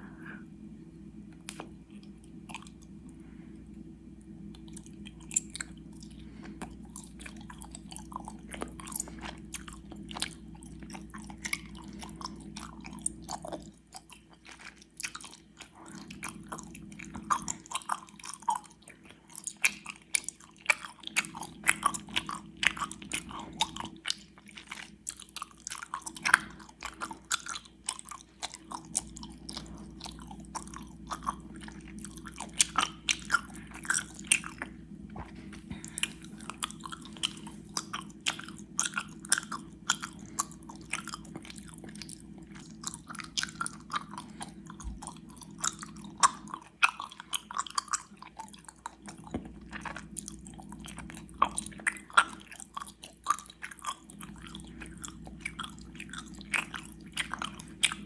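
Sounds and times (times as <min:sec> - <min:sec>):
faint steady hum: 0:00.0 - 0:58.0
wet sticky chewing: 0:01.4 - 0:03.2, 0:04.2 - 0:58.0.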